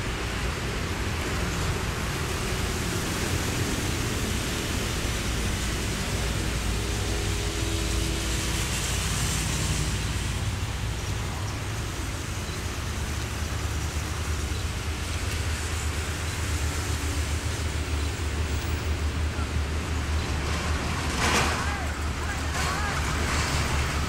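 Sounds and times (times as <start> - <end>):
train rushing noise: 0.0 - 24.0
train wheels rumbling on rail: 0.0 - 24.0.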